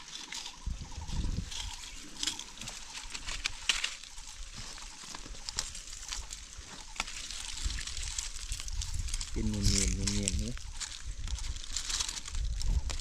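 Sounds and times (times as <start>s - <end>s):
leaves and twigs rustling: 0.0s - 13.0s.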